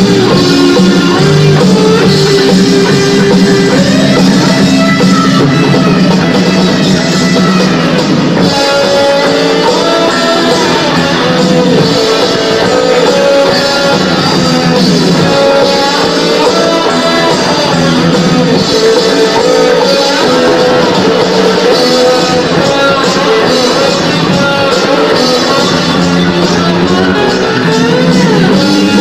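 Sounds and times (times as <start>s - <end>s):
drum kit: 0.0s - 29.0s
electric guitar bending notes: 0.0s - 29.0s
live rock band playing: 0.0s - 29.0s.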